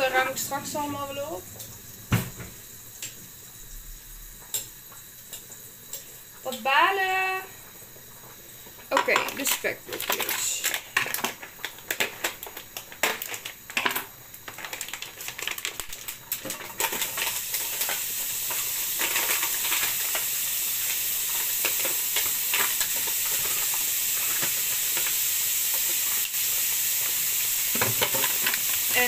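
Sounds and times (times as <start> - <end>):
bacon sizzling in a frying pan: 0.0 - 29.0.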